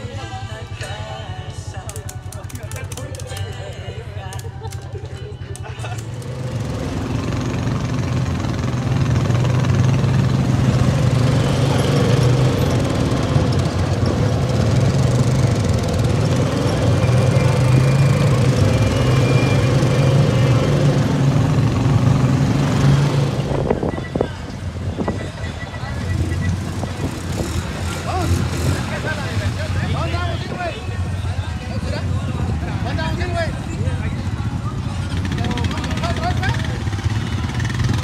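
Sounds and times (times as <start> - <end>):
broad noise: 0.0 - 38.0
vehicle engine running: 0.0 - 38.0.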